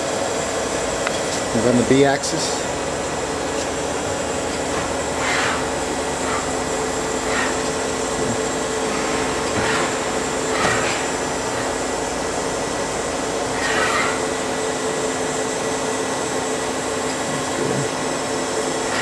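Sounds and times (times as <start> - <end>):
machine tool humming: 0.0 - 19.0.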